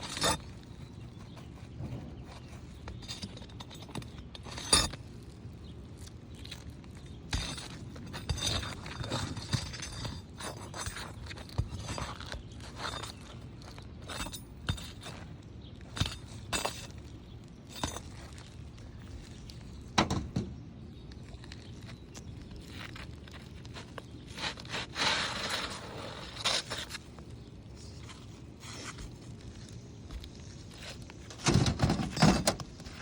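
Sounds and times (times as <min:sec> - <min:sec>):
scraping on shingle roof: 0:00.0 - 0:20.6, 0:21.2 - 0:33.0.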